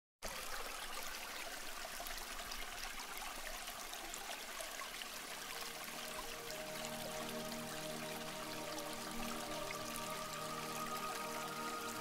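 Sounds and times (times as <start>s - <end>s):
water trickling: 0.2s - 12.0s.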